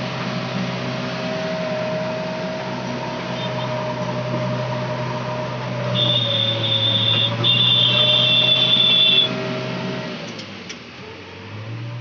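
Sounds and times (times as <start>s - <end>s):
loud high-pitched whine: 0.0s - 10.2s
diesel engine running: 0.0s - 12.0s.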